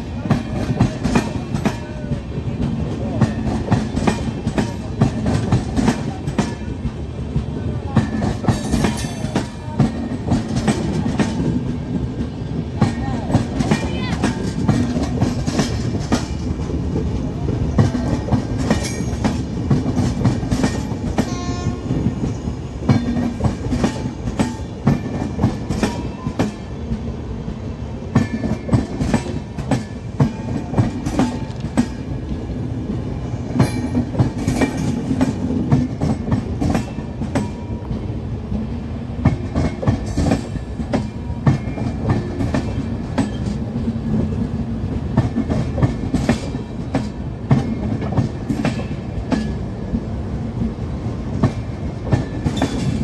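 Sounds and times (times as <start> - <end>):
train rumble: 0.0 - 53.0
train wheels clattering: 0.0 - 53.0.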